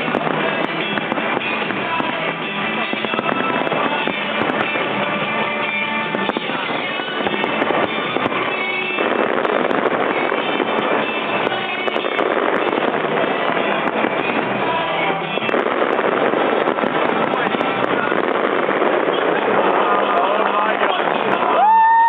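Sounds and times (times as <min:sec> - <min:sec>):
music with held tones: 0:00.0 - 0:21.6
fireworks bursting and crackling: 0:00.0 - 0:22.0.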